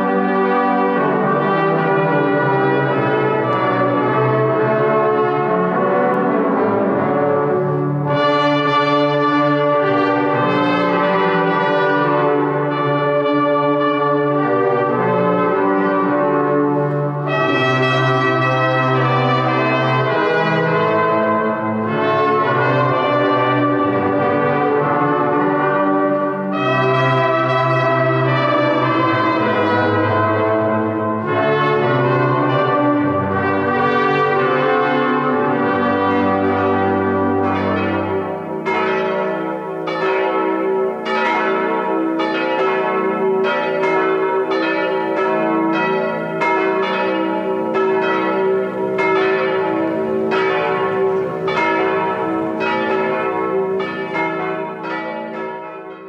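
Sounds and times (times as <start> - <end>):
brass ensemble chords: 0.0 - 56.0
church bells pealing: 0.0 - 56.0.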